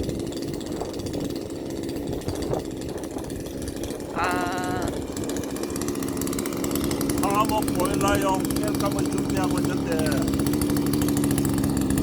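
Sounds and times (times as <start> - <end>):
chainsaw engine cutting logs: 0.0 - 12.0.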